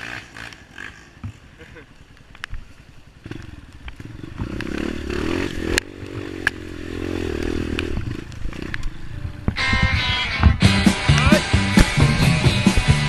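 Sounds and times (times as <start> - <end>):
dirt bike engine revving: 0.0 - 1.5, 3.1 - 13.0.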